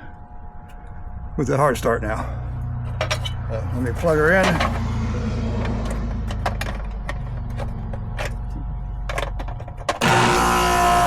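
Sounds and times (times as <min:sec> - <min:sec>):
compressor starting and humming: 0:00.0 - 0:11.0
low electrical hum: 0:00.0 - 0:11.0.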